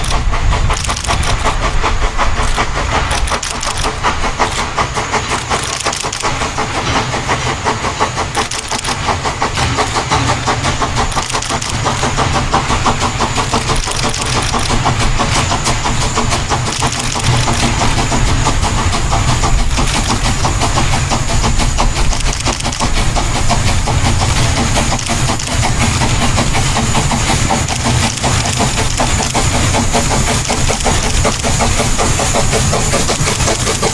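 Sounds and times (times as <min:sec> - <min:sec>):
steam locomotive running: 0:00.0 - 0:33.9.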